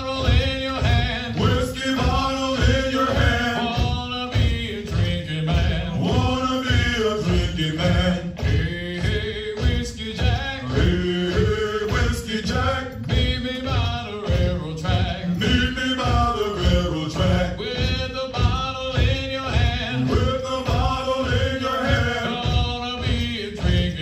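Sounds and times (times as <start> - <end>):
steady low beat: 0.0 - 24.0.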